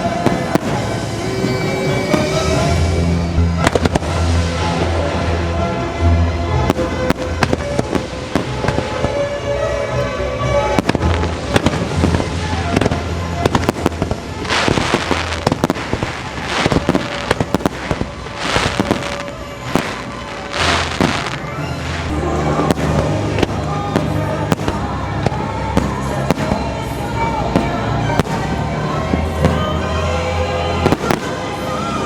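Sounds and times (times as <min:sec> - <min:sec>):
firework bursts and pops: 0:00.0 - 0:05.3, 0:06.6 - 0:09.4, 0:10.6 - 0:32.0
crackling firework rushes: 0:00.0 - 0:06.0, 0:06.6 - 0:09.5, 0:10.6 - 0:32.0
music soundtrack: 0:00.0 - 0:32.0.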